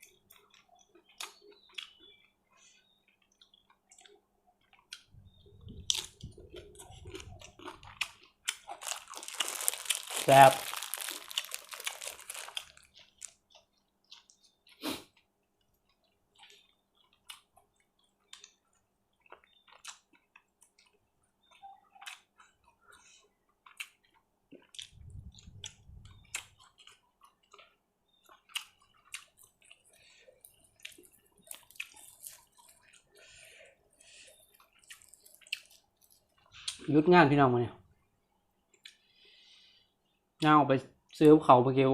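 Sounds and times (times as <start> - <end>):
person chewing: 0.0 - 36.9, 38.7 - 39.4.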